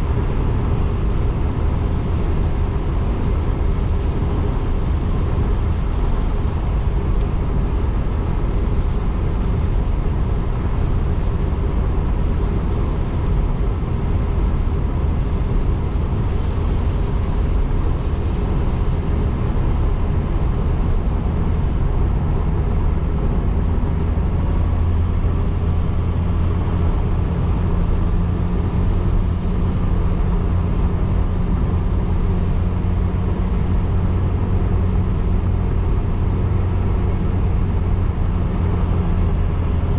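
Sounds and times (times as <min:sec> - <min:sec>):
car road and engine rumble: 0:00.0 - 0:39.9
low steady hum: 0:00.0 - 0:39.9.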